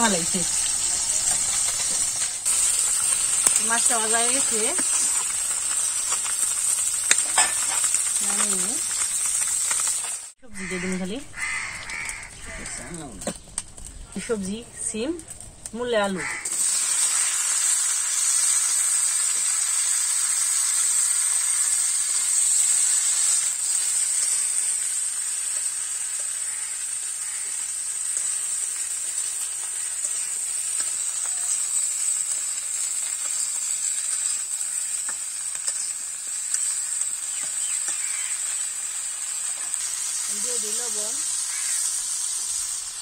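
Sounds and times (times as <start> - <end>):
vegetables sizzling in oil: 0.0 - 43.0.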